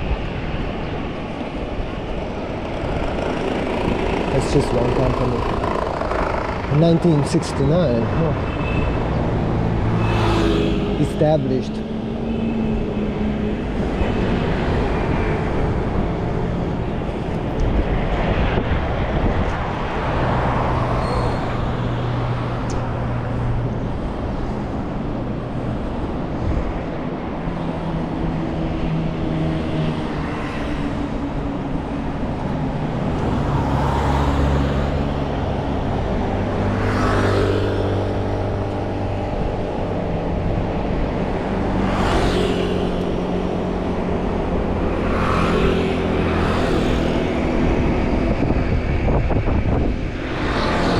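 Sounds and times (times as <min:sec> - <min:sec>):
highway traffic: 0:00.0 - 0:50.9
vehicles passing: 0:00.0 - 0:50.9.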